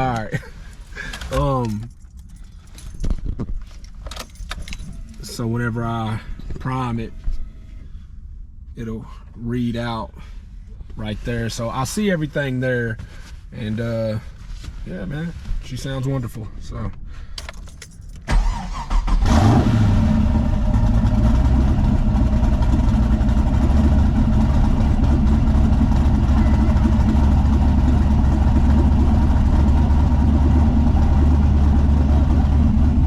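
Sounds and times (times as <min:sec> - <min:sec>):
car engine cranking and idling: 0:00.0 - 0:33.0.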